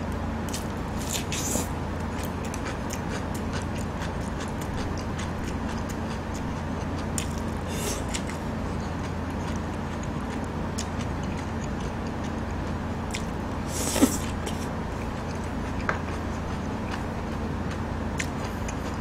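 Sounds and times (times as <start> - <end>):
low electrical hum: 0.0 - 19.0
chewing rice: 0.4 - 19.0.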